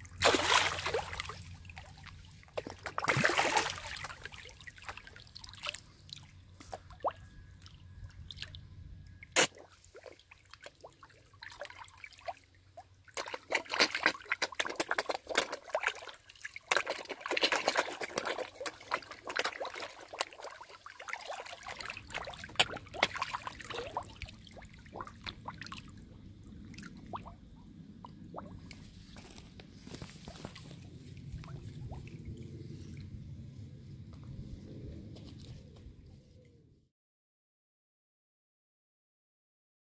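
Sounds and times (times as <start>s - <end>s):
fish slurping and splashing: 0.0s - 8.6s, 9.3s - 33.1s.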